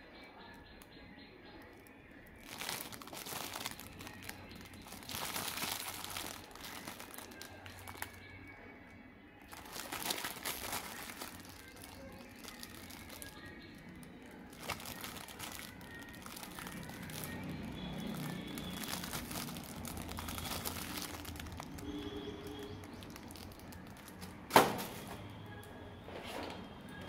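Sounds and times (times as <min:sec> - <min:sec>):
plastic packaging crinkling: 0:01.7 - 0:08.3, 0:09.5 - 0:25.3.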